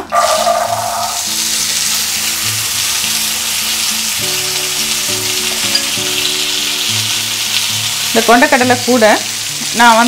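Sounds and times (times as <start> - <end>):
oil sizzling in frying pan: 0.0 - 10.0
soft background music: 0.0 - 10.0.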